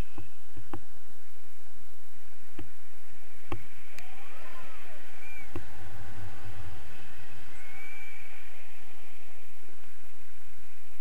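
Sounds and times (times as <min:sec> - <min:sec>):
faint gliding tones: 0:00.0 - 0:11.0
wind rushing over microphone: 0:00.0 - 0:11.0.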